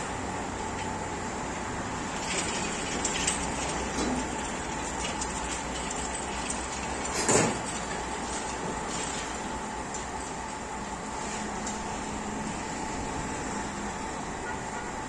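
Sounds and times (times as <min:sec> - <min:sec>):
workshop hum: 0:00.0 - 0:15.0.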